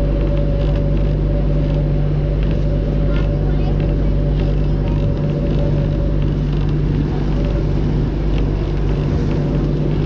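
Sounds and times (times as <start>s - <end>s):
boat motor humming: 0.0s - 10.0s
water rushing past hull: 0.0s - 10.0s.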